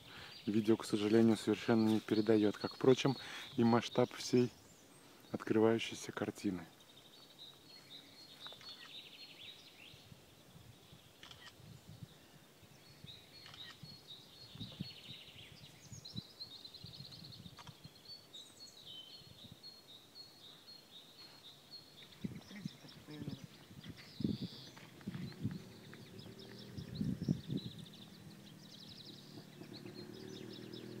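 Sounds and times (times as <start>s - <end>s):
songbirds trilling and chirping: 0.0s - 31.0s.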